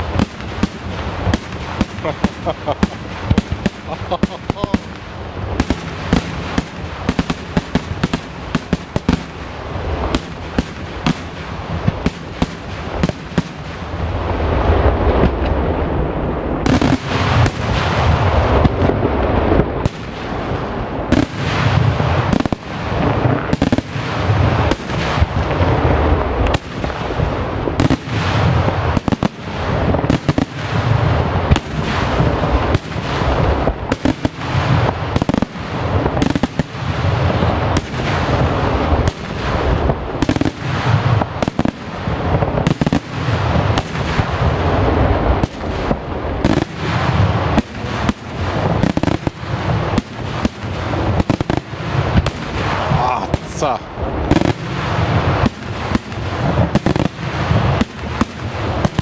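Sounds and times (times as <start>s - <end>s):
continuous low rumble: 0.0s - 59.0s
firework bangs: 0.0s - 59.0s.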